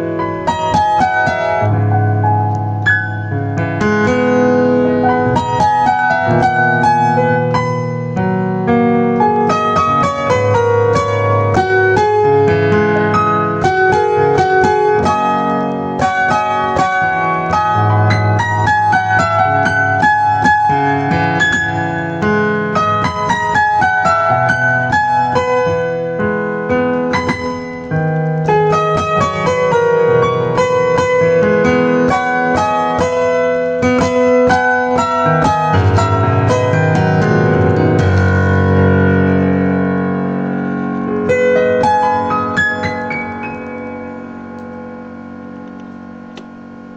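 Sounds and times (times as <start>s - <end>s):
solo piano melody: 0.0s - 46.9s.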